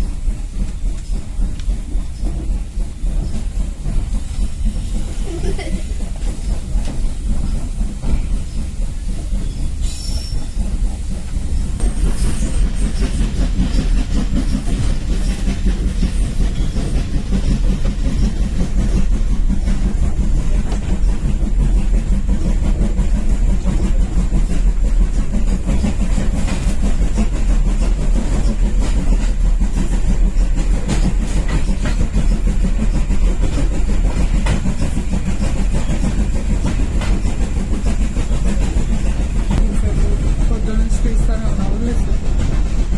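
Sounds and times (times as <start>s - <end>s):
steam train rumbling along track: 0.0s - 42.9s.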